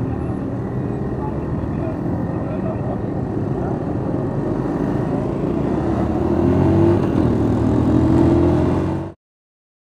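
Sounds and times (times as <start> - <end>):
road noise: 0.0 - 9.2
vehicle engine accelerating: 0.6 - 9.2.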